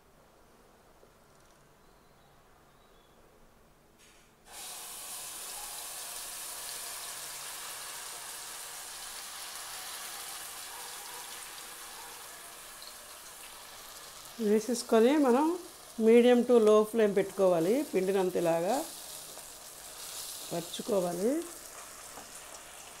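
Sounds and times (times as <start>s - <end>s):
batter sizzling in hot oil: 4.5s - 23.0s.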